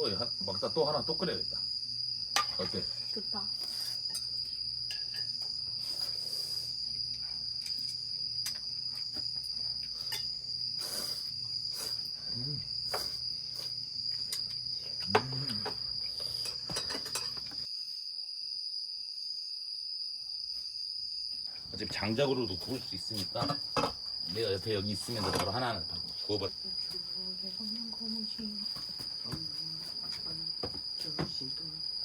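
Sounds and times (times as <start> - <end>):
crickets chirring: 0.0 - 32.0.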